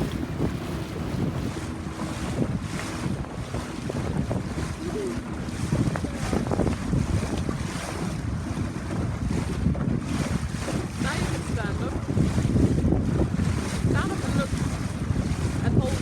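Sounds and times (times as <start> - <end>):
water rushing against hull: 0.0 - 16.0
wind buffeting microphone: 0.0 - 16.0.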